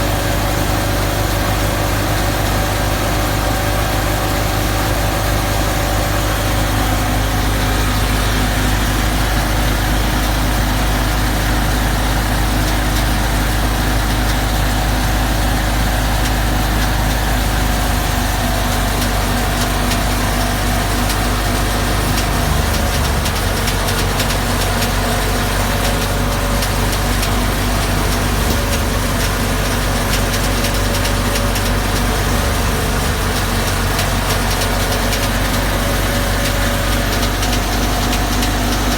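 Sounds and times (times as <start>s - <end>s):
threshing machine running: 0.0s - 38.9s
tractor diesel engine running: 0.0s - 38.9s.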